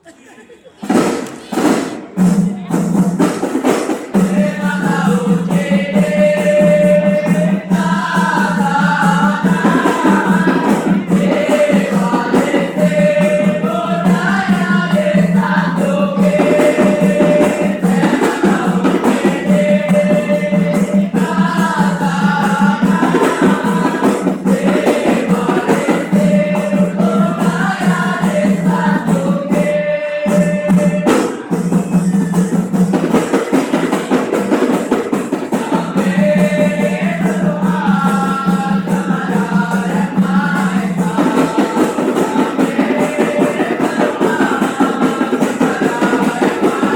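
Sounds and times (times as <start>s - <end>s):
voices singing together: 0.0s - 46.9s.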